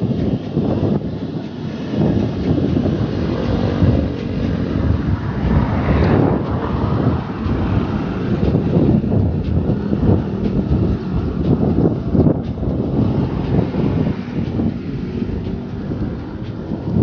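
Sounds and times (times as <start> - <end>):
road traffic rumble: 0.0 - 17.0
wind buffeting microphone: 0.0 - 17.0.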